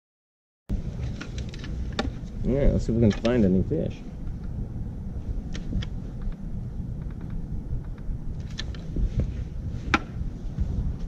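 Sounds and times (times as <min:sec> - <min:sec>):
wind rumbling on microphone: 0:00.7 - 0:11.0.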